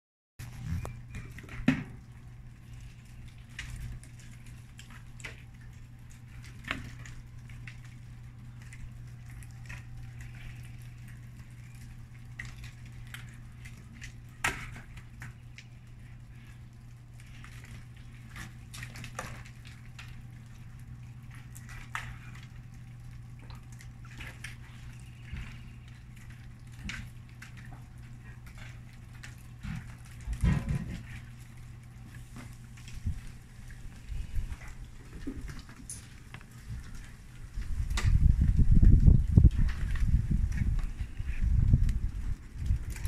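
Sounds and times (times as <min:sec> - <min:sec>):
low hum: 0:00.4 - 0:43.0.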